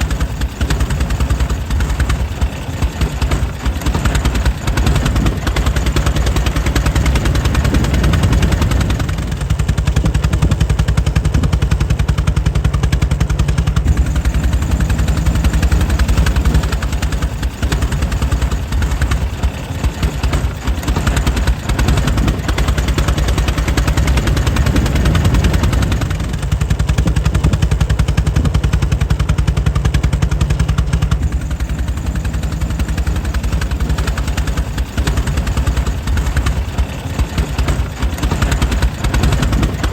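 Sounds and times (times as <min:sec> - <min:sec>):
air-cooled engine running: 0:00.0 - 0:39.9.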